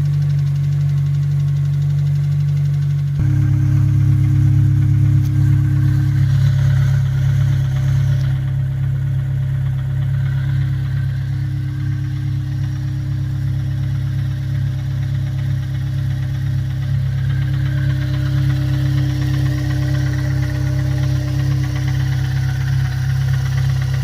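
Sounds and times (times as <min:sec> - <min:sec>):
car engine idling: 0:00.0 - 0:24.0
rapid engine knock: 0:00.0 - 0:24.0.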